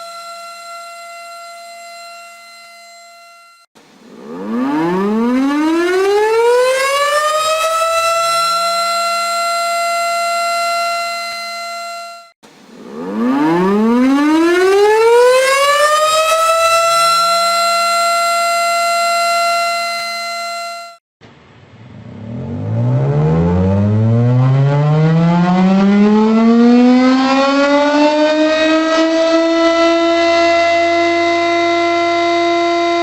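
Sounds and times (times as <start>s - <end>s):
lower tornado siren steady tone: 0.0s - 21.0s, 21.6s - 33.0s
tornado siren winding up: 0.0s - 21.0s, 21.8s - 33.0s.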